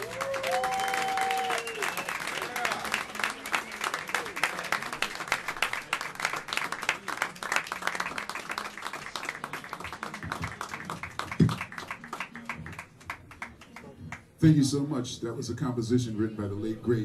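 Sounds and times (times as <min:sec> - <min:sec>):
audience applauding: 0:00.0 - 0:14.3.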